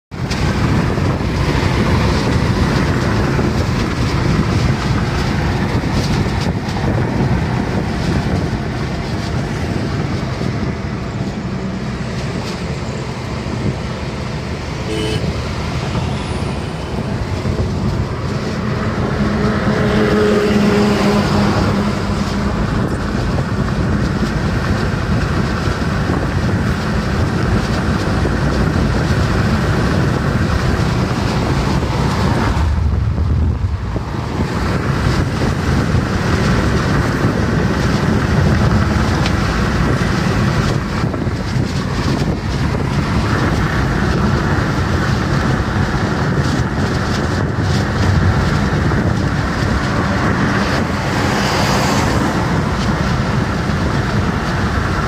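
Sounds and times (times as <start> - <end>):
car engine tyre and wind noise: 0.0 - 55.0.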